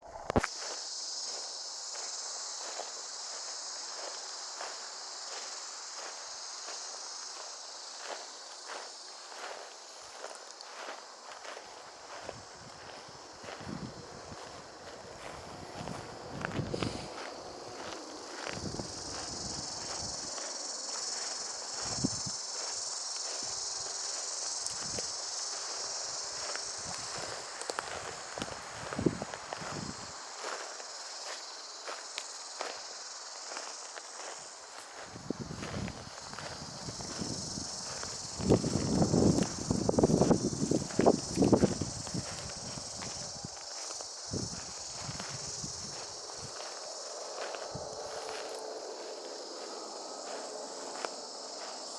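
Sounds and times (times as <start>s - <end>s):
footsteps crunching on path: 0.0s - 51.9s
insects chirping: 0.0s - 51.9s.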